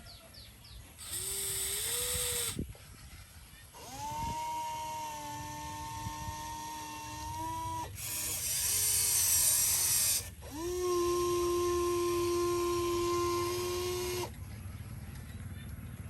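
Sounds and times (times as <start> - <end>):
machine whining: 1.0 - 14.5.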